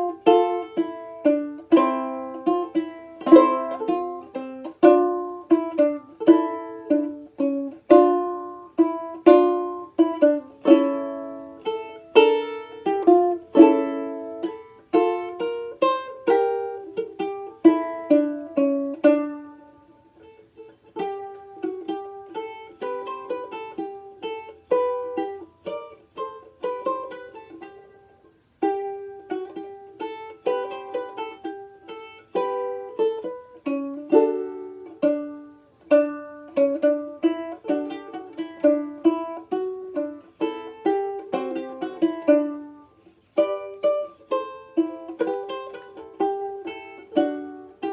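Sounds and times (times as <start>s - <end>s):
banjolele plucked and strummed: 0.0s - 47.9s.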